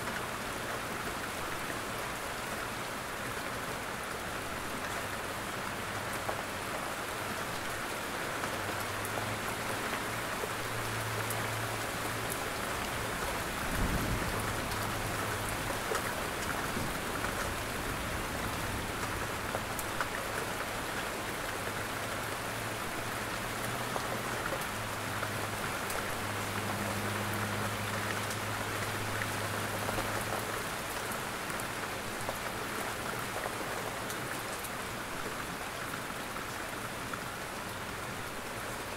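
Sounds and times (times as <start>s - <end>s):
rain hissing on a surface: 0.0s - 38.9s.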